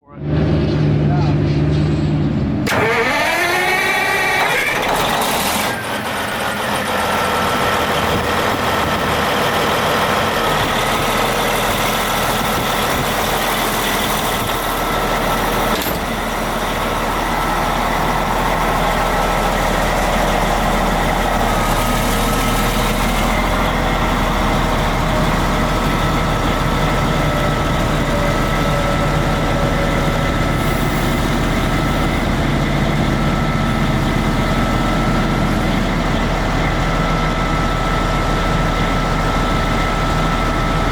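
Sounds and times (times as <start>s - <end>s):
large diesel engine revving: 0.0s - 40.9s.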